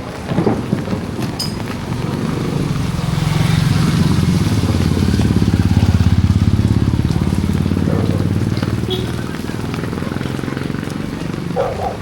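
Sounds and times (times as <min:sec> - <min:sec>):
heavy rain hissing: 0:00.0 - 0:12.0
vehicle engine running: 0:00.7 - 0:12.0.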